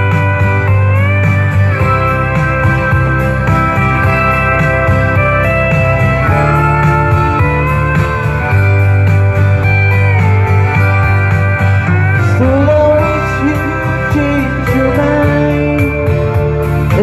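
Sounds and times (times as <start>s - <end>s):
bass line: 0.0s - 17.0s
guitars playing: 0.0s - 17.0s
steel guitar melody: 0.0s - 17.0s.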